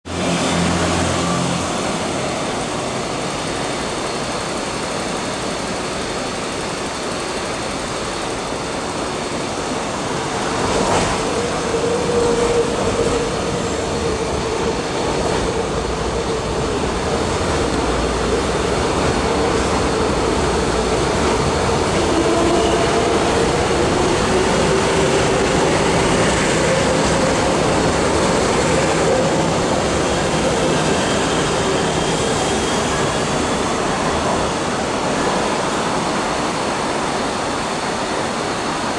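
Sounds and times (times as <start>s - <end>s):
metro train wheel noise: 0.0s - 38.9s
train whine: 0.0s - 38.9s.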